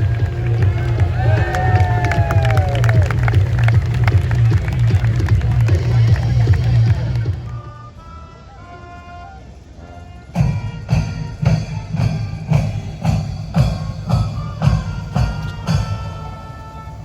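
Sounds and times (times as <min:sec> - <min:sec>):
music with heavy drum beat: 0:00.0 - 0:07.5, 0:10.4 - 0:16.5.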